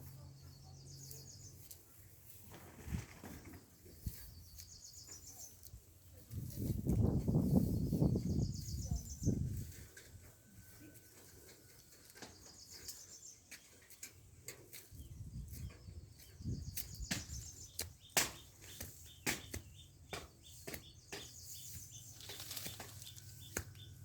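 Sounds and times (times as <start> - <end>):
small birds chirping trills: 0.0 - 24.0.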